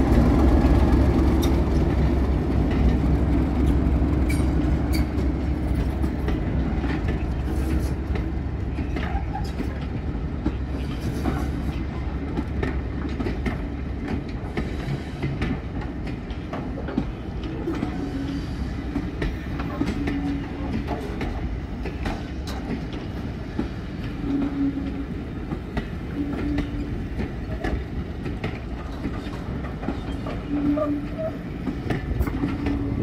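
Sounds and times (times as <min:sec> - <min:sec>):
diesel locomotive engine rumbling: 0:00.0 - 0:33.0
wheels clicking over rail joints: 0:00.2 - 0:18.0, 0:18.9 - 0:33.0.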